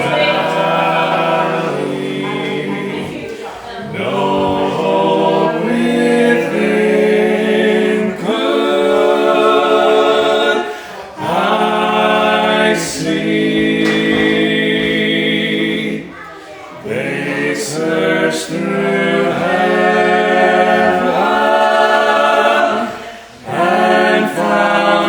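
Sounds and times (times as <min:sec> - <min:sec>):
group singing a cappella hymn: 0:00.0 - 0:25.0.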